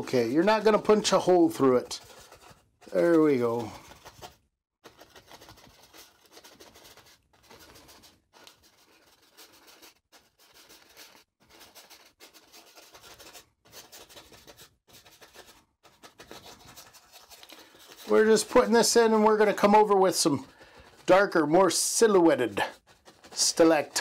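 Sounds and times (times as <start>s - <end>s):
brush scratching on canvas: 0.3s - 24.0s.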